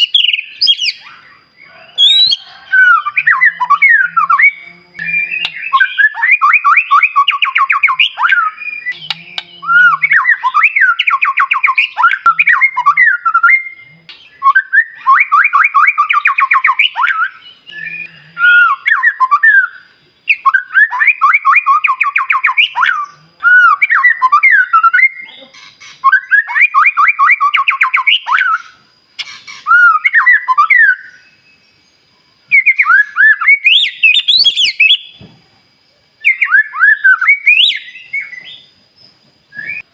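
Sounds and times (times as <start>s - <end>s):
bird singing harsh trills: 0.0s - 35.2s, 36.2s - 39.9s.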